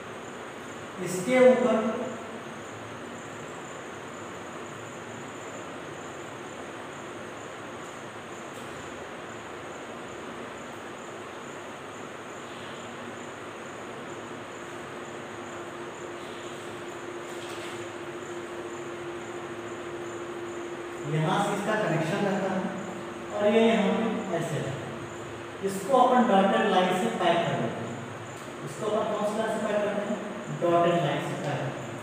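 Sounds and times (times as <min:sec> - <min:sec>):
background hiss: 0:00.0 - 0:32.0.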